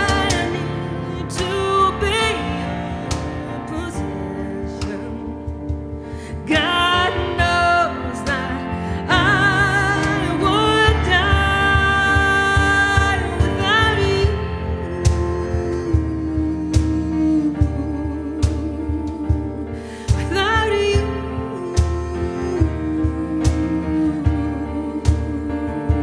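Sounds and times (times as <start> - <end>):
guitar accompaniment: 0.0 - 26.0
woman singing slow song: 0.0 - 26.0.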